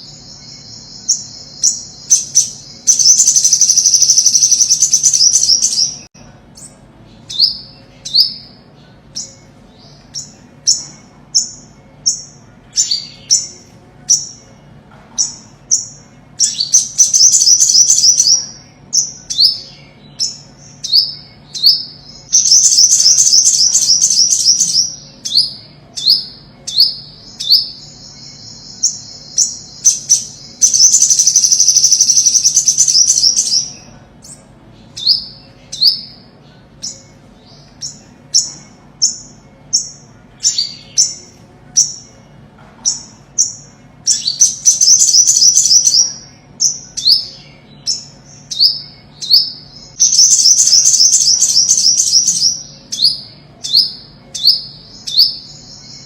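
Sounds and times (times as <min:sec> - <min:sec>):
bird singing high trills: 0:00.0 - 0:14.6, 0:15.2 - 0:56.0.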